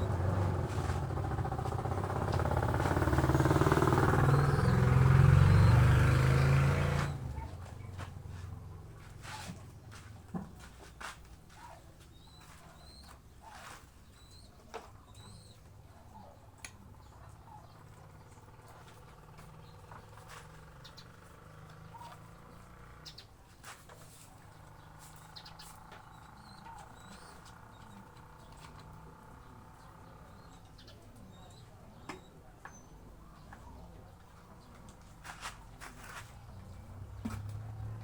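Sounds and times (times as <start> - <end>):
small birds chirping: 0.0 - 9.0, 11.5 - 37.9.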